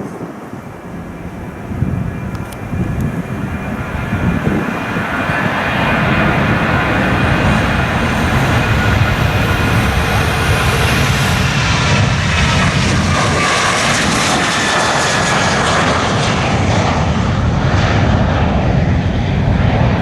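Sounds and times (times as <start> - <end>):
jet engines roaring at take-off: 0.0 - 20.0.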